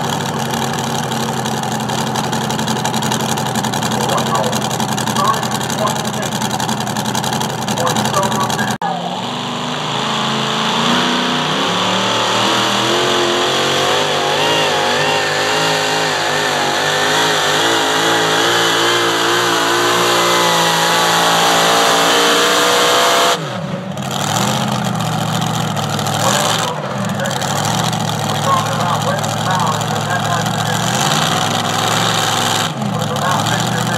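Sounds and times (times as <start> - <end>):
racing engine at full power: 0.0 - 33.9.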